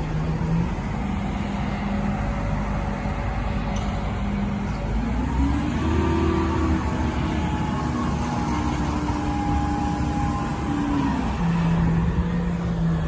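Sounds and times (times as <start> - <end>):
road traffic noise: 0.0 - 13.0
vehicle engine running: 0.0 - 13.0.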